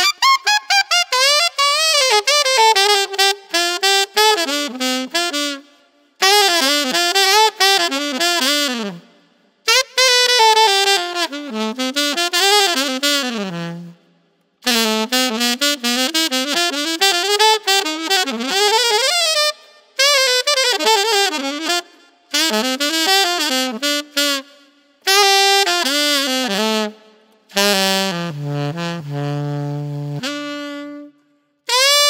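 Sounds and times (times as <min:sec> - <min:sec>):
alto saxophone melody: 0:00.0 - 0:32.0.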